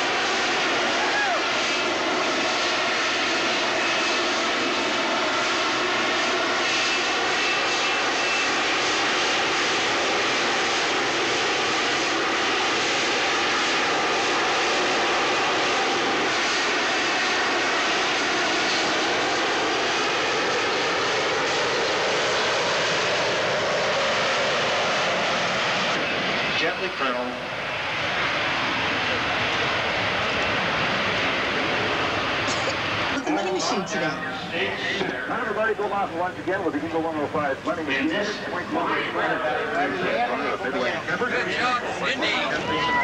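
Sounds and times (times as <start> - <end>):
jet engine roaring with whine: 0.0 - 43.0.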